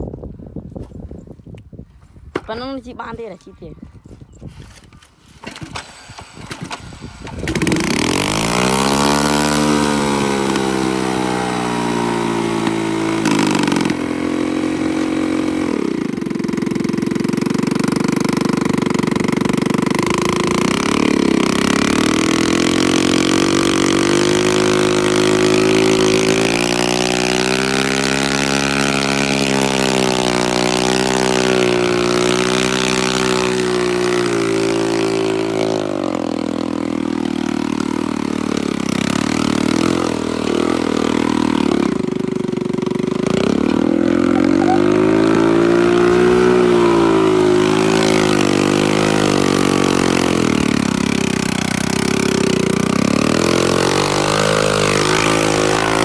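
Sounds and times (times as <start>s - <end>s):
small motorbike engine starting and revving: 4.5s - 56.0s.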